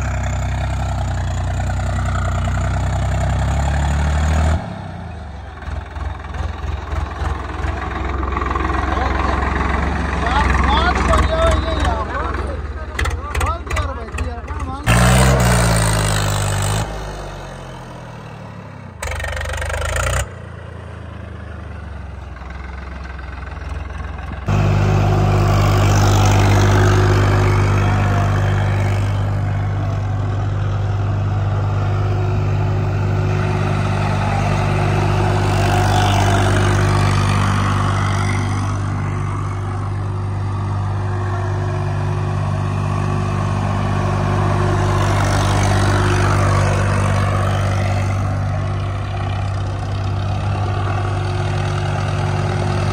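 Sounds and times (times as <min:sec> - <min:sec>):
tractor diesel engine revving: 0:00.0 - 0:52.9.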